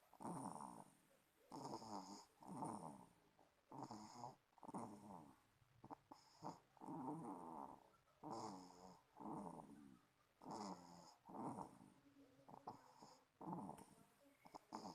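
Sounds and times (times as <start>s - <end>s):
baby snoring: 0.2s - 0.9s, 1.5s - 3.1s, 3.7s - 9.8s, 10.4s - 11.8s, 12.5s - 14.9s.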